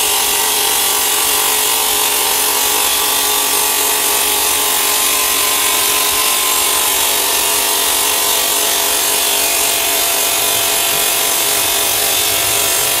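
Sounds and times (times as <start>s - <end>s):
saw blade grinding through stone: 0.0s - 13.0s.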